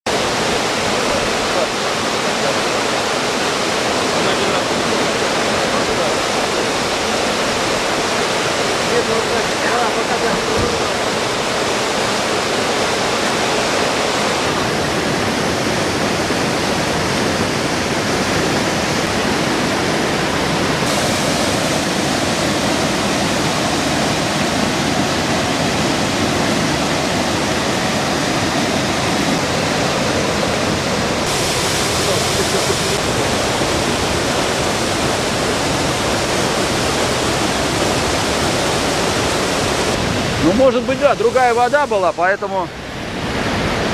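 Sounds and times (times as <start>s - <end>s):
rushing roar of rapids and waterfall: 0.1s - 43.9s.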